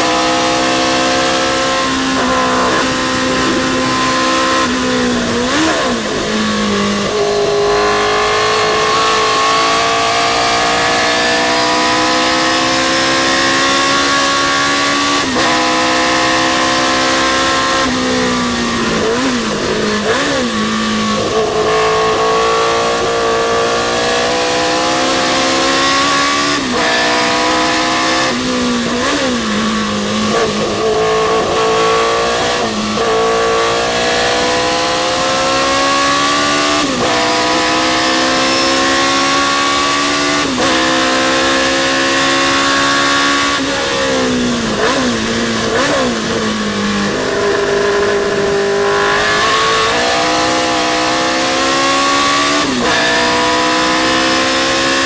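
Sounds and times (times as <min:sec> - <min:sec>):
racing car engine at full throttle: 0:00.0 - 0:55.0.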